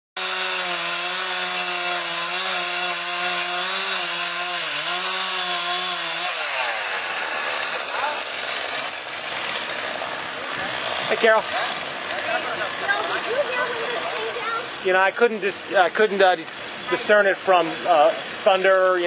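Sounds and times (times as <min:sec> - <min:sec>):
chainsaw running: 0:00.2 - 0:19.0.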